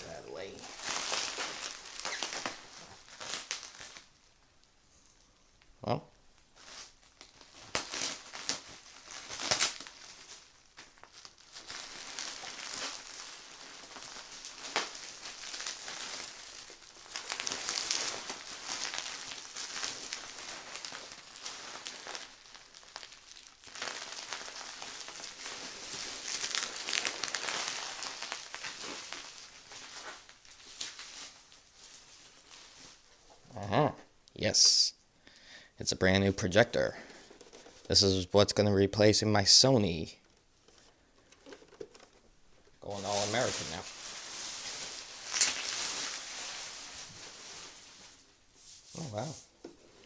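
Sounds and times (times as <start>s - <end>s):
packaging crinkling and rustling: 0.0s - 4.6s, 6.4s - 33.4s, 36.3s - 50.0s.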